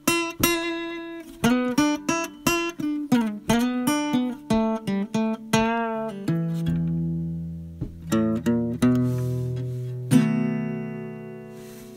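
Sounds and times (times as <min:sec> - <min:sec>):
acoustic guitar music: 0:00.0 - 0:11.9.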